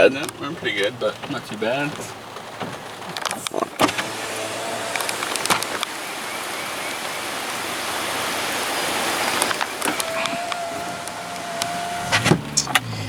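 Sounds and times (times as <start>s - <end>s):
sharp clicks: 0.0s - 13.0s
steady rushing hiss: 0.0s - 13.0s.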